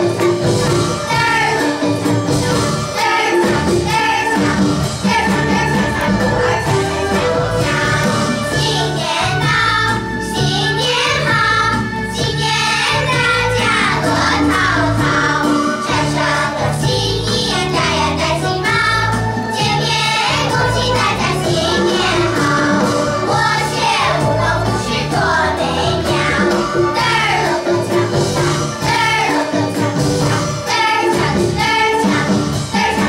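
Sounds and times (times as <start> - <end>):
instrumental backing track: 0.0 - 33.0
girls choir singing: 0.8 - 2.0, 2.8 - 33.0.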